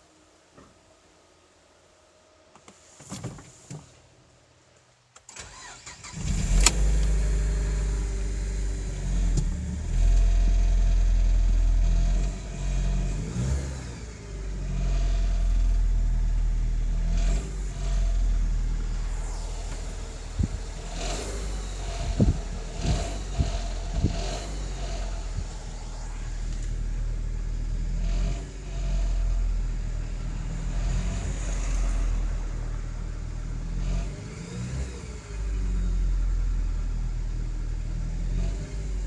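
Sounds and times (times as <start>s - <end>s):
car engine cranking: 5.2s - 36.8s
car engine idling: 5.5s - 39.0s.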